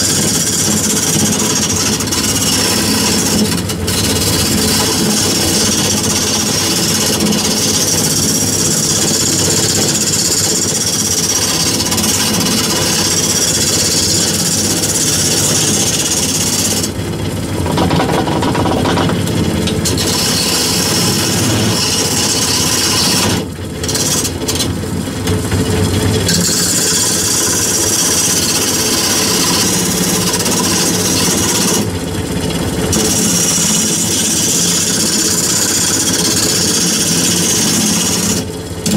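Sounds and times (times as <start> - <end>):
lathe motor hum: 0.0 - 38.9
turning tool cutting wood: 0.0 - 38.9.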